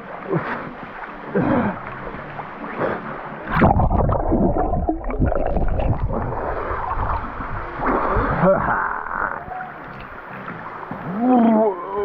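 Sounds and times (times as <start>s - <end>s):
water splashing and gurgling: 0.0s - 12.0s
underwater bubbling rumble: 1.3s - 11.4s.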